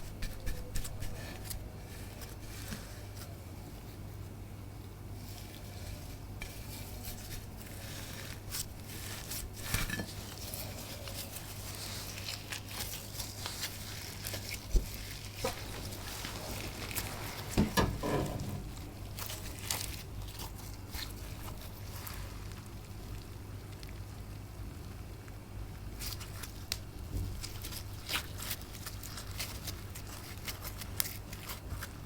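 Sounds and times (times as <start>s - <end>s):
crinkling rustles: 4.9s - 32.0s.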